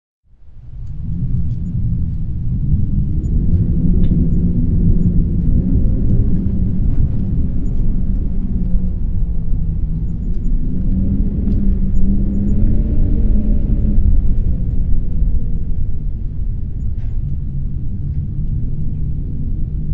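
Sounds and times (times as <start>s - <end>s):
strong wind blowing: 0.3s - 19.9s.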